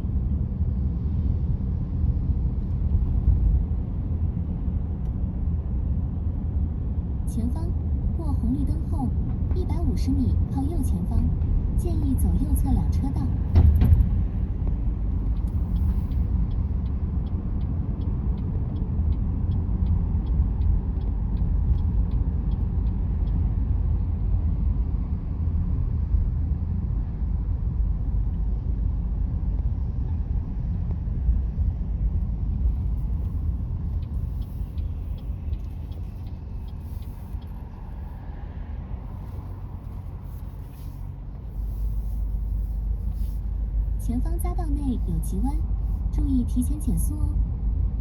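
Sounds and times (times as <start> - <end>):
car road noise rumble: 0.0 - 48.0
turn signal ticking: 8.4 - 48.0.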